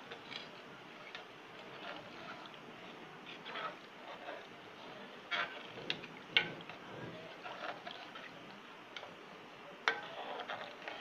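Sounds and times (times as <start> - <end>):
liquid sloshing in pan: 0.0 - 11.0.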